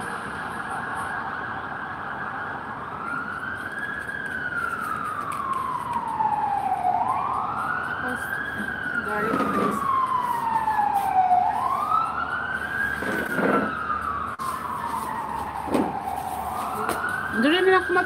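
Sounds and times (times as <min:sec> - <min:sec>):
siren wailing: 0:00.0 - 0:18.0.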